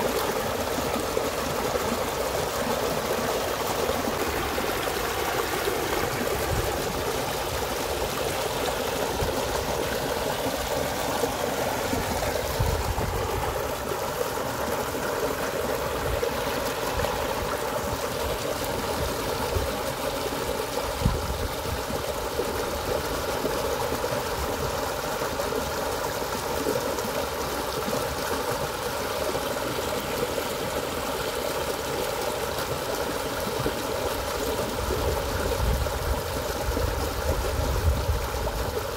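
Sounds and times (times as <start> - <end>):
stream rushing over cascade: 0.0 - 38.9.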